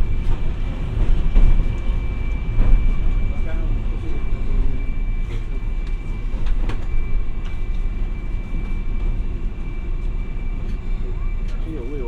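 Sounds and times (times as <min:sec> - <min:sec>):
tram rumble: 0:00.0 - 0:12.0.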